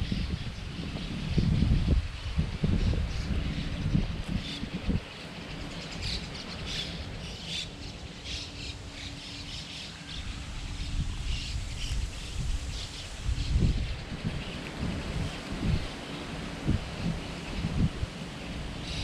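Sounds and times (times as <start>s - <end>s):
wind rumbling on microphone: 0.0s - 19.0s
small birds chirping: 0.1s - 19.0s.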